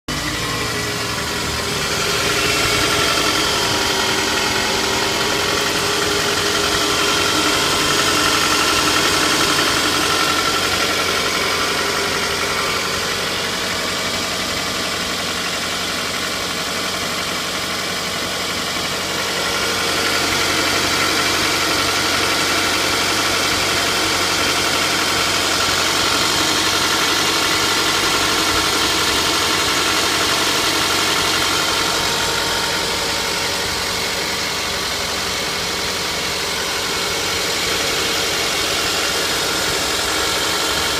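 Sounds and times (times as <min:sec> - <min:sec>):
car engine idling with knock: 0:00.1 - 0:40.9.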